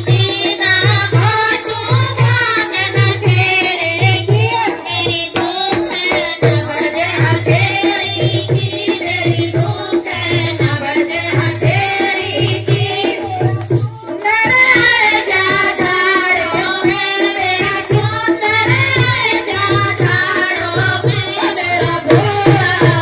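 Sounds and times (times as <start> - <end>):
hand drum steady beat: 0.0 - 23.0
woman singing into a microphone: 0.0 - 23.0.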